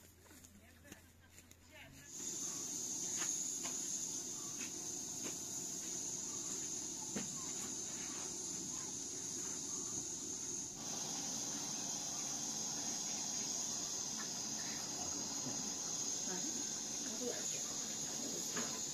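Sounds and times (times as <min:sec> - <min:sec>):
high-pitched insect chorus: 0:02.0 - 0:18.9.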